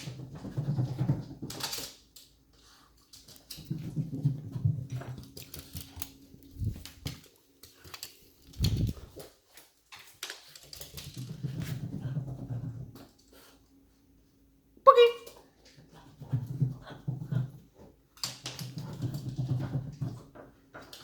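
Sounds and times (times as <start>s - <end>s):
dog claws clicking on stairs: 0.0s - 13.3s, 15.7s - 21.0s.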